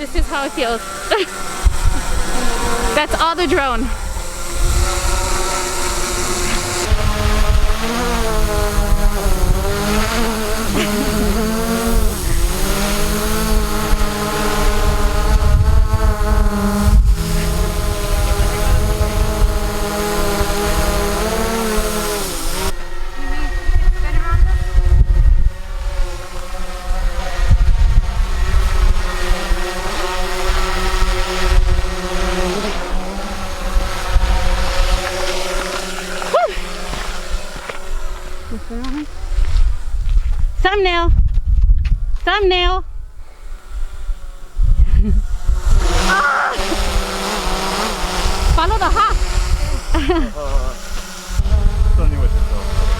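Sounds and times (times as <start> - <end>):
drone propellers buzzing: 0.0 - 52.9
wind buffeting microphone: 0.0 - 52.9.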